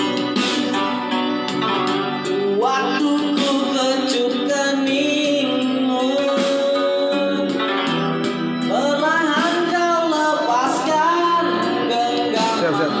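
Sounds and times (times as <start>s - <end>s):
plucked string accompaniment: 0.0s - 4.4s, 5.7s - 13.0s
person singing with vibrato: 2.1s - 13.0s.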